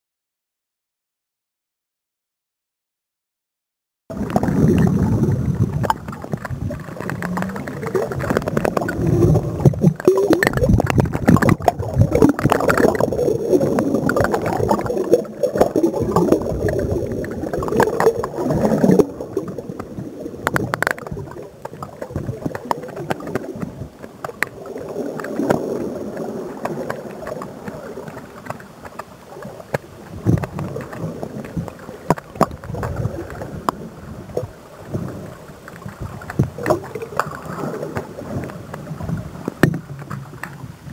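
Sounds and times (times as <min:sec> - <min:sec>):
underwater water gurgling: 0:04.1 - 0:40.9.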